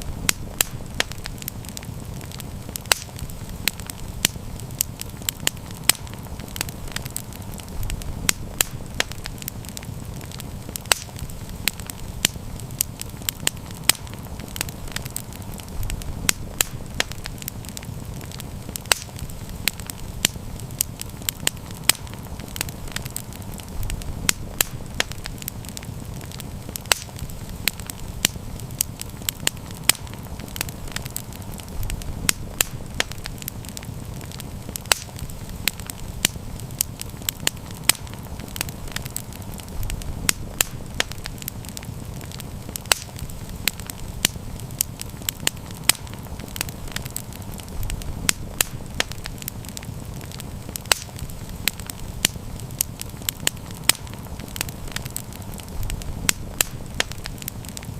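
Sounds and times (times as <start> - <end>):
campfire burning: 0.0 - 57.9
fire crackling and popping: 0.0 - 57.9.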